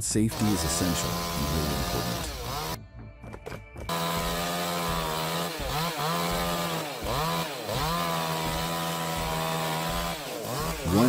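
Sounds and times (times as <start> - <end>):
chainsaw engine at high revs: 0.3 - 2.8, 3.9 - 11.0.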